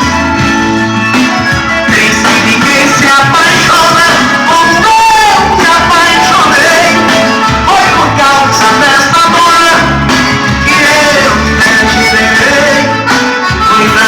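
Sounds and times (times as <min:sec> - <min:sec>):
loud music on car speakers: 0:00.0 - 0:14.0.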